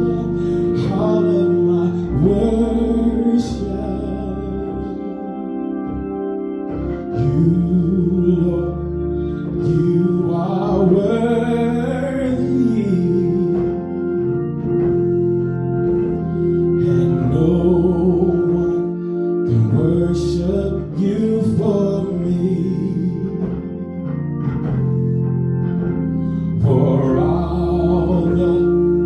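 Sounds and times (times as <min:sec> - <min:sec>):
person singing: 0:00.0 - 0:06.1, 0:06.7 - 0:24.9, 0:25.7 - 0:29.0
organ chords: 0:00.0 - 0:29.0.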